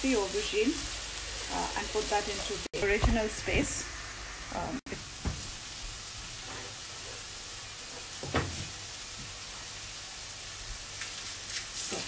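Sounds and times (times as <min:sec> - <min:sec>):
food frying in a pan: 0:00.0 - 0:12.0.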